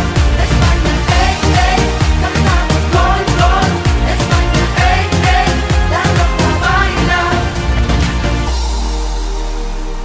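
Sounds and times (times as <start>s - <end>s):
upbeat pop dance music: 0.0s - 9.5s.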